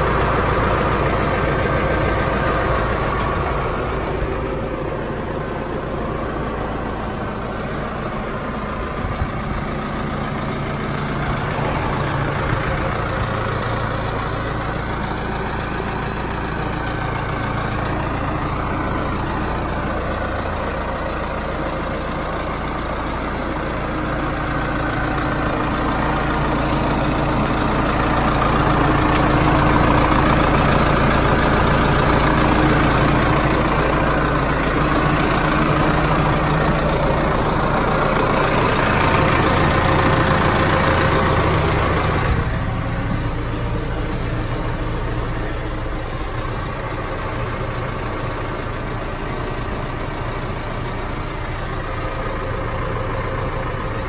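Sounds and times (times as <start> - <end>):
tractor diesel engine idling: 0.0 - 54.0.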